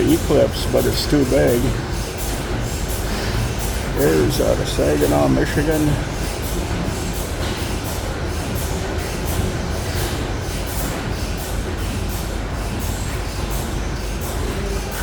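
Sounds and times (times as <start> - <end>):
stationary gas engines running: 0.0 - 15.0.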